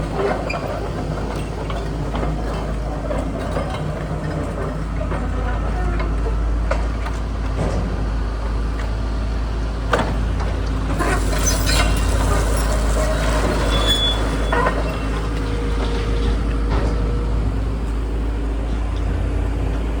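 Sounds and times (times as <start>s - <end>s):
excavator engine rumble: 0.0s - 20.0s.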